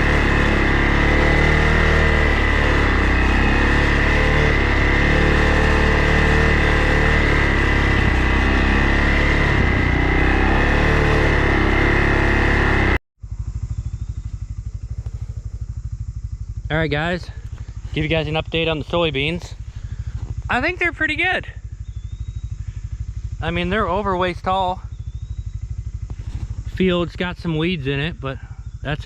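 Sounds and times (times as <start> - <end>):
engine idling putter: 0.0 - 29.0
vehicle engine running: 0.0 - 29.0.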